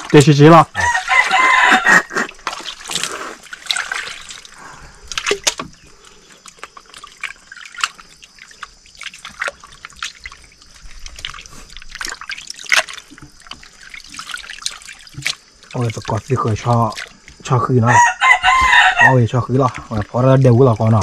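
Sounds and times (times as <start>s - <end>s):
water splashing in a basin: 0.0s - 21.0s.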